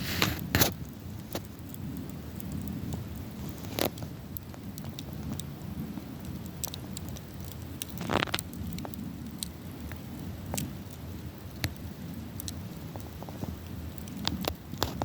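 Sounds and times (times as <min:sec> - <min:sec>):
campfire crackles and pops: 0:00.0 - 0:15.0
fire hissing flare: 0:00.0 - 0:15.0
low fire rumble: 0:00.0 - 0:15.0.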